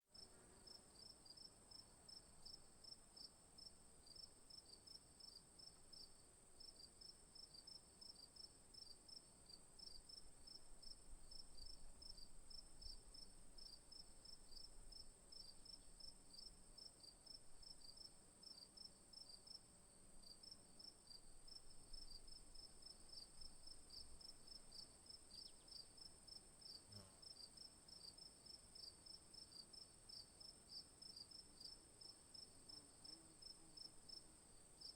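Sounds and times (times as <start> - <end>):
crickets chirping: 4.9 - 34.9.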